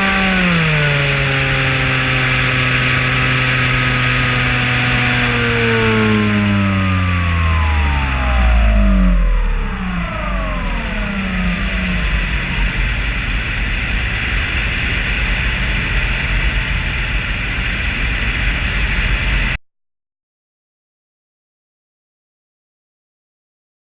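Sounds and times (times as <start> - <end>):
propeller motor whine: 0.0 - 19.6.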